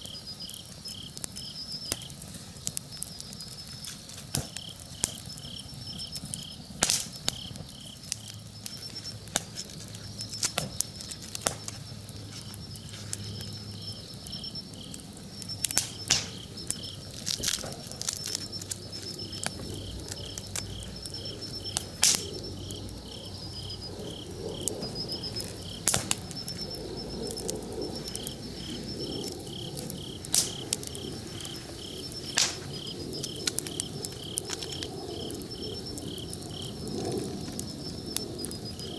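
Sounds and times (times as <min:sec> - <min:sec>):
campfire crackling and popping: 0:00.0 - 0:38.9
insects chirping: 0:00.0 - 0:38.9.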